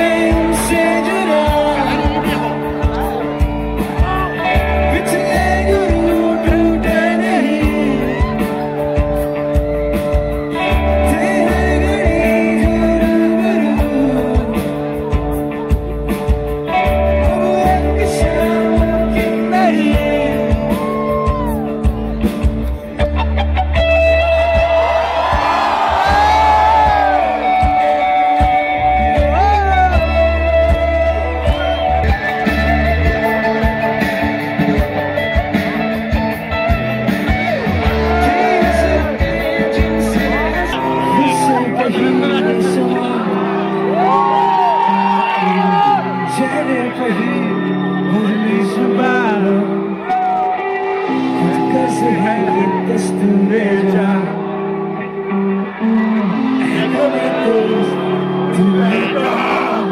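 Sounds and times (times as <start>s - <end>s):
person singing: 0.0s - 22.4s, 25.4s - 36.5s, 37.4s - 59.9s
rock band playing: 0.0s - 59.9s.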